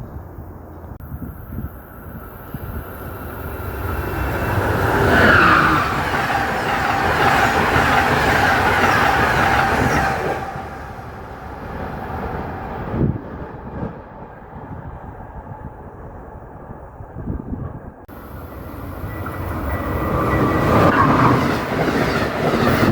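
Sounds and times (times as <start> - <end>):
train passing: 0.0 - 22.9.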